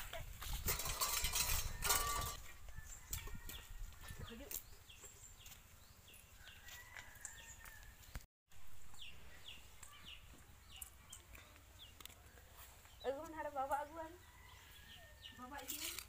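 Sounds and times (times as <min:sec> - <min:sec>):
faint birds chirping: 0:02.4 - 0:15.9.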